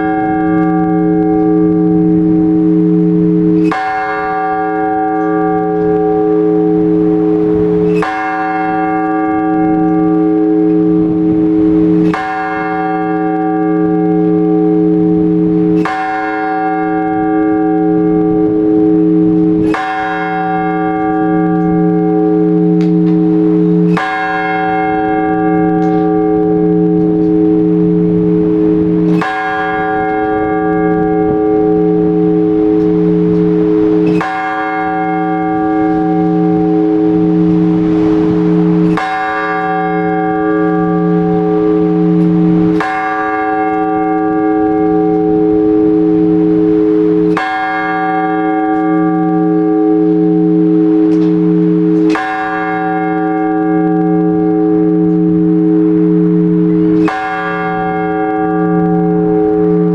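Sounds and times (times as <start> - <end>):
large church bell tolling: 0.0 - 59.9.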